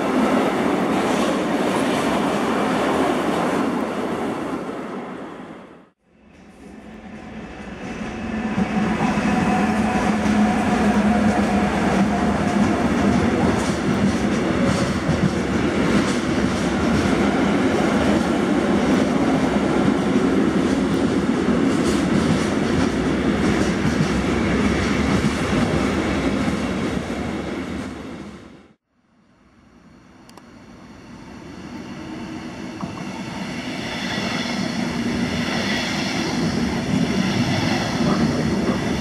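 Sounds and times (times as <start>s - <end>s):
electric locomotive humming whine: 6.0s - 22.1s, 23.0s - 39.0s.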